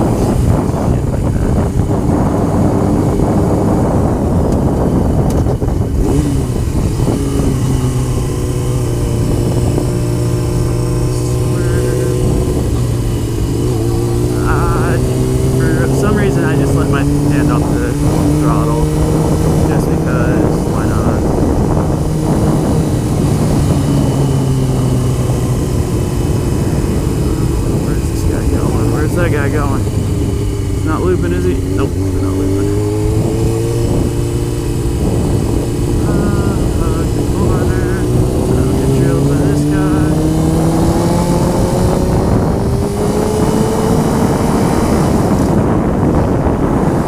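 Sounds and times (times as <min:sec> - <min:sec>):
motorcycle engine at road speed: 0:00.0 - 0:47.0
wind buffeting microphone: 0:00.0 - 0:47.0.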